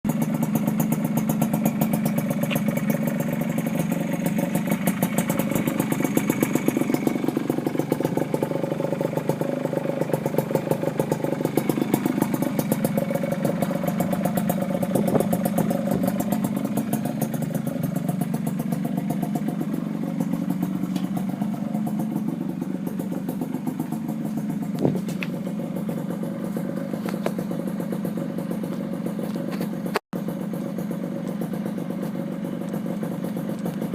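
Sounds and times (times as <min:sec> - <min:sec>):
two-stroke motorcycle engine running: 0:00.1 - 0:33.9.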